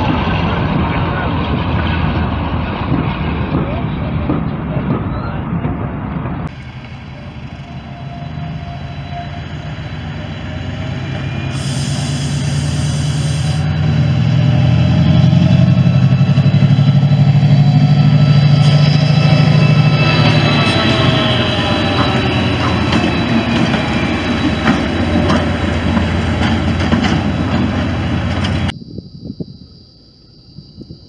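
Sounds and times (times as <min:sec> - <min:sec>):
diesel locomotives passing: 0:00.0 - 0:28.8.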